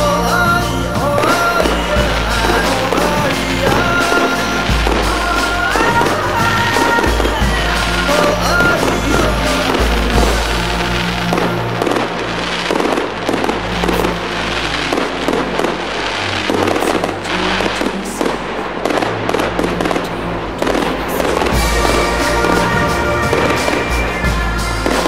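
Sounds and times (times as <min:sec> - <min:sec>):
music: 0:00.0 - 0:25.0
fireworks bangs and crackles: 0:00.1 - 0:25.0.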